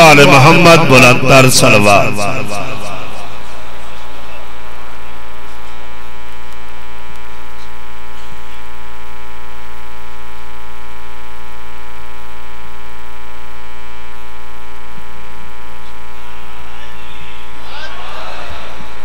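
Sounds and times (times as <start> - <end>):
loud buzzing mains hum: 0.0 - 19.0.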